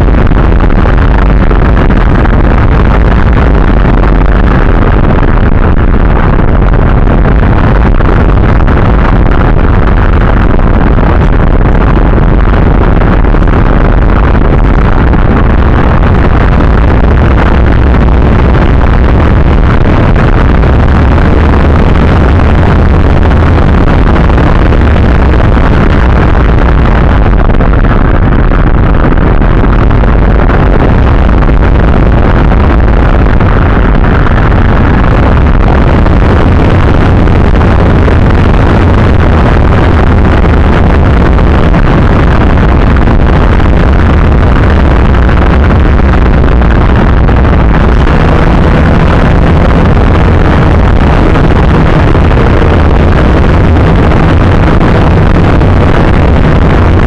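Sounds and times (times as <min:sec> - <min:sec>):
wind blasting over microphone: 0:00.0 - 0:57.0.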